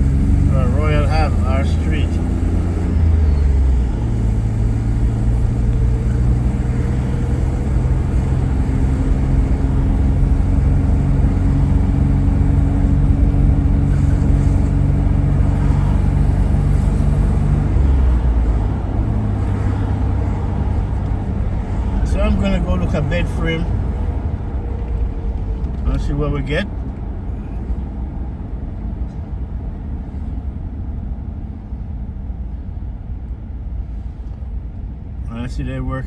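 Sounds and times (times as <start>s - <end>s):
car engine hum: 0.0s - 36.0s
road rumble: 0.0s - 36.0s.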